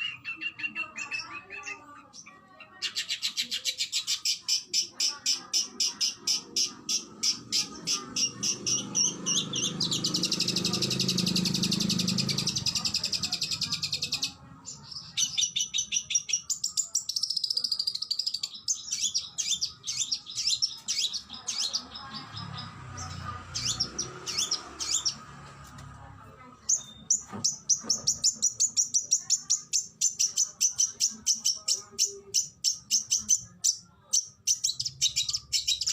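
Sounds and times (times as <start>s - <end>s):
bird song with trills and whistles: 0.0s - 25.2s, 26.6s - 35.9s.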